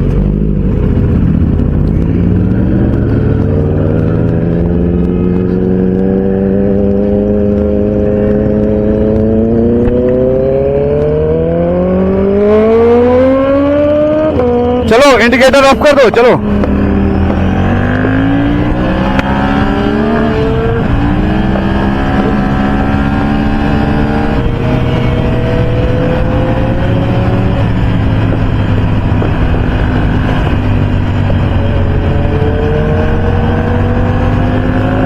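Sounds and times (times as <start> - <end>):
motorcycle engine accelerating: 0.0 - 35.0
wind and road noise: 0.0 - 35.0.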